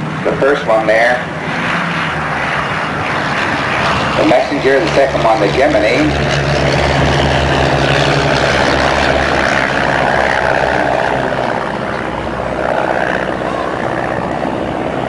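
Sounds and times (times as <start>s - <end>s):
propeller aircraft droning: 0.0s - 15.0s.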